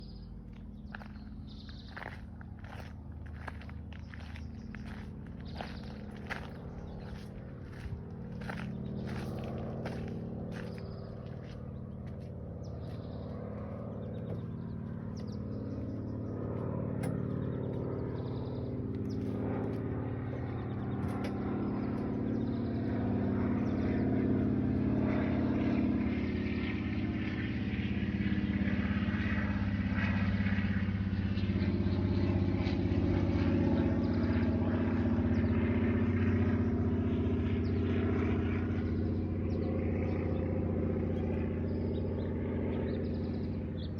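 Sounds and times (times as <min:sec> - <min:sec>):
motor engine humming: 0:00.0 - 0:43.9.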